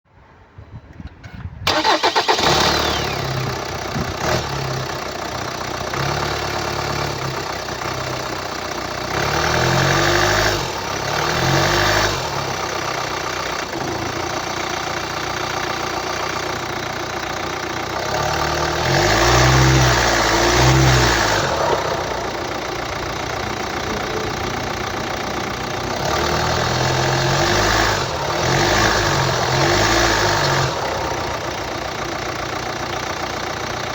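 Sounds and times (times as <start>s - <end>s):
diesel engine starting and idling: 0.3s - 33.9s.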